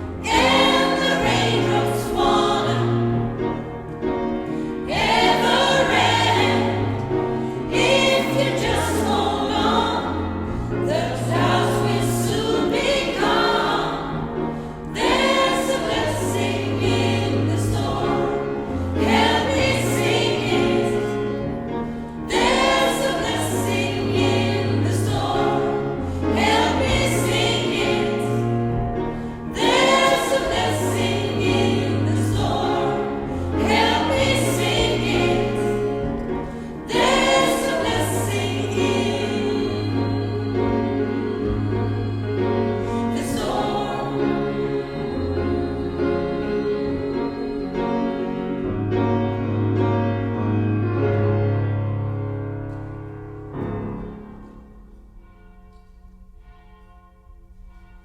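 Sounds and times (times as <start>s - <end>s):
gospel choir singing: 0.0s - 54.9s.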